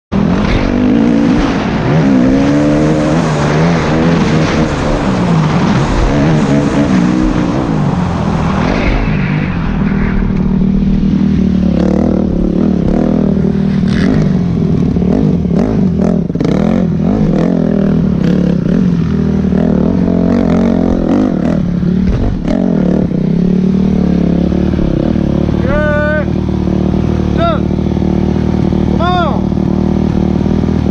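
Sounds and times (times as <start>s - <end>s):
dirt bike engine revving: 0.1s - 9.0s, 10.4s - 30.9s.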